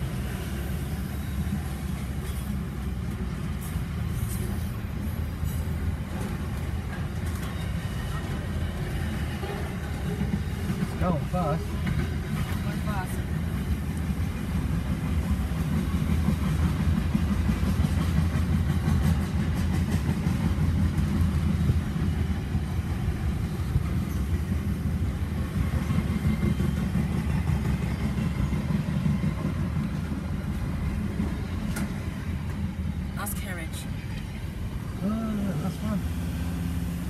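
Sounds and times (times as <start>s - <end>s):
freight train wagons rolling: 0.0s - 36.3s.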